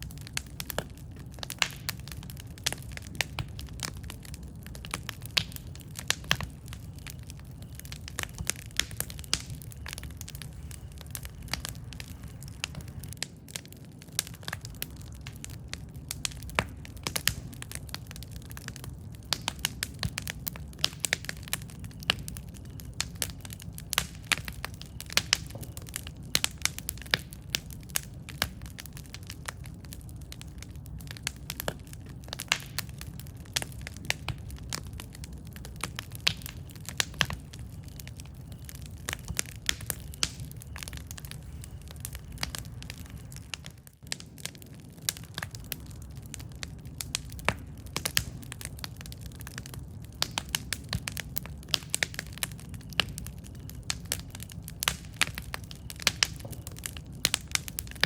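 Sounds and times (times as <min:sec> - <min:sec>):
campfire crackling and popping: 0:00.0 - 0:58.0
low rush of flame: 0:00.0 - 0:58.0.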